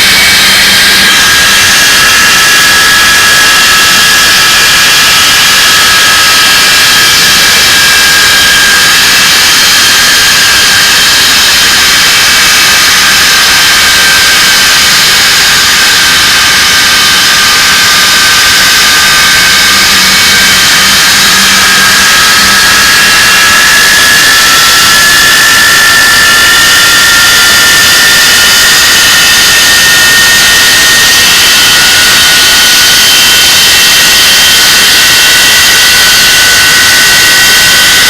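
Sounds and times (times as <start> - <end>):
jet engine roar with whine: 0.0 - 38.0.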